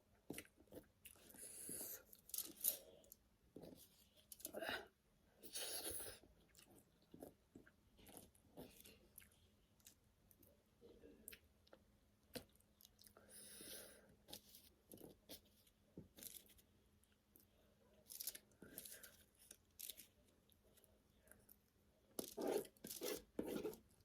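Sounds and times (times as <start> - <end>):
soft chewing: 0.2 - 4.6, 5.4 - 24.0.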